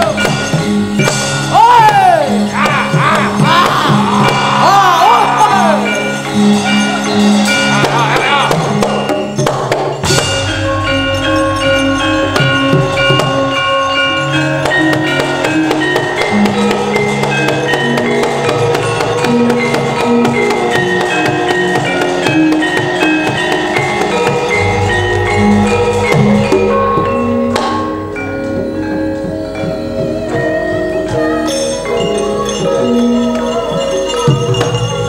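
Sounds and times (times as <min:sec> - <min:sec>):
gamelan playing: 0:00.0 - 0:35.0
steady tapping beat: 0:00.0 - 0:35.0.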